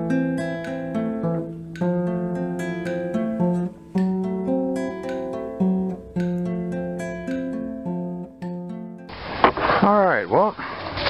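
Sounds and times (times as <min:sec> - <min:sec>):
guitar music: 0:00.0 - 0:09.4.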